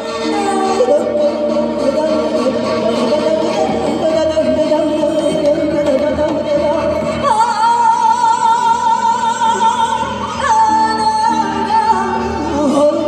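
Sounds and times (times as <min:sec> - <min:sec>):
band playing: 0:00.0 - 0:13.0
woman singing: 0:00.0 - 0:13.0.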